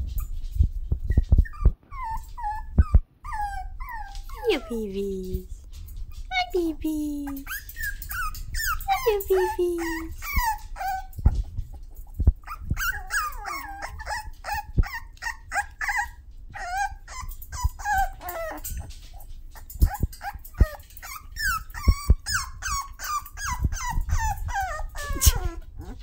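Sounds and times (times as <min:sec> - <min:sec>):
puppies yipping and whining: 0:00.0 - 0:04.8, 0:07.3 - 0:26.0.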